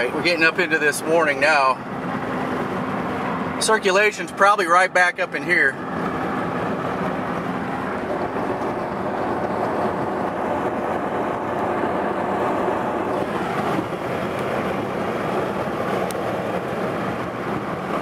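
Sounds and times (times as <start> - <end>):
car road noise from inside: 0.0 - 18.0.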